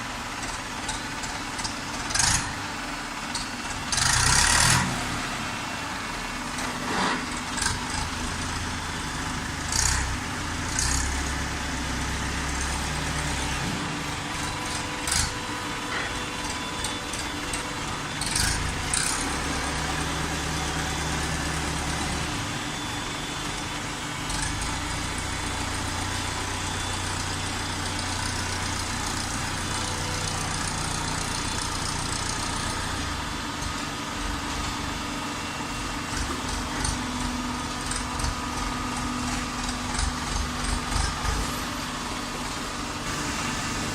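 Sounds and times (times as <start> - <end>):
deeper machine drone: 0.0 - 43.9.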